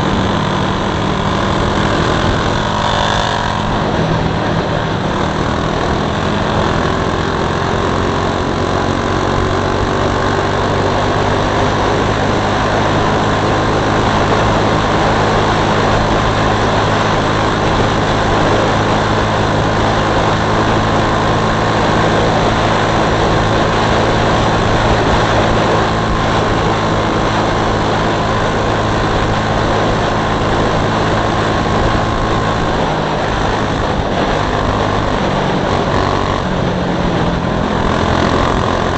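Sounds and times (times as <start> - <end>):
mini bike engine running hard: 0.0 - 38.9.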